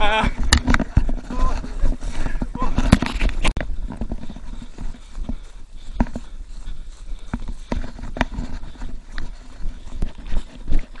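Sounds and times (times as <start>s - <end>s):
handheld camera jostling rumble: 0.0s - 11.0s
running footsteps on dirt: 0.0s - 11.0s.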